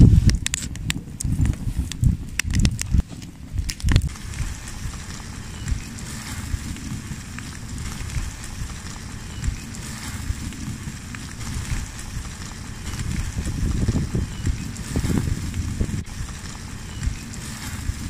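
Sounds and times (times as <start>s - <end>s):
steady low rumble: 0.0s - 18.0s
wood fire crackling: 0.0s - 18.0s.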